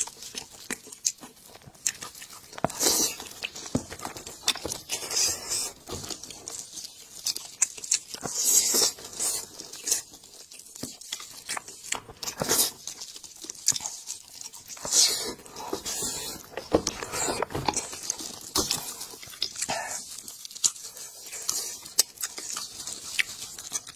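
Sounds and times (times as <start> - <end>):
chewing: 0.0 - 23.9
meat tearing by gloved hands: 0.0 - 23.9.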